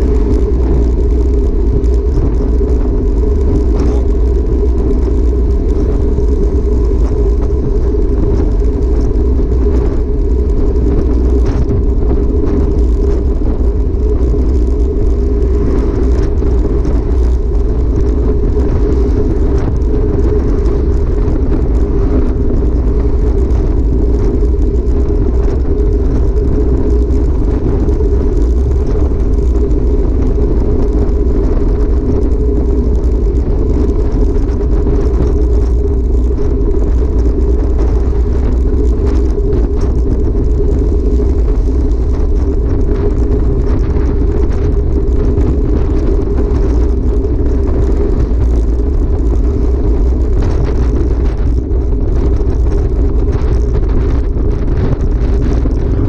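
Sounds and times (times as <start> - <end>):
deep rumble: 0.0 - 56.0
wind rushing over camera: 0.0 - 56.0.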